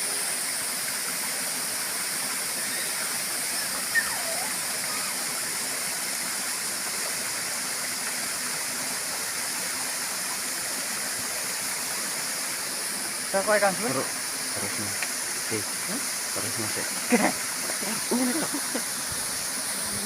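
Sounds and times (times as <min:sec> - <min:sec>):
waterfall roaring: 0:01.8 - 0:20.0.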